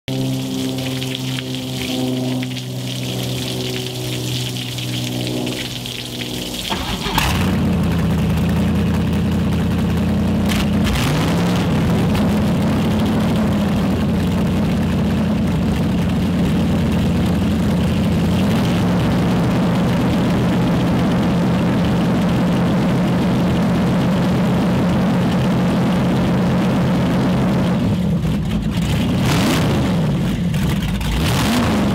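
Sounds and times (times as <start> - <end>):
boat engine idling: 0.0 - 31.9.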